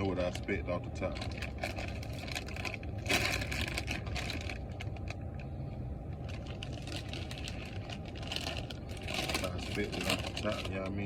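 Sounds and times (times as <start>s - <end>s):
plastic snack bag crinkling: 1.0s - 5.4s, 6.2s - 11.0s.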